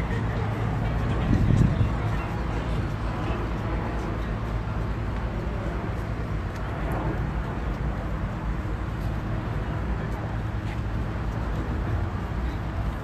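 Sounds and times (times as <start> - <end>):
engines rumbling: 0.0 - 13.0
faint voices: 0.0 - 13.0.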